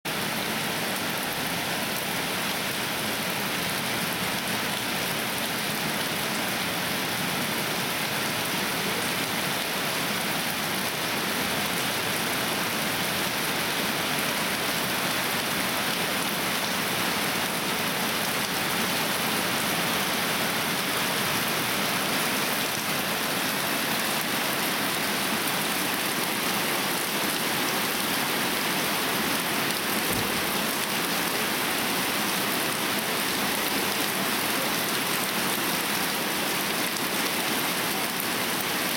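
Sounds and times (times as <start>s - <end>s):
heavy rain pouring: 0.1s - 38.9s.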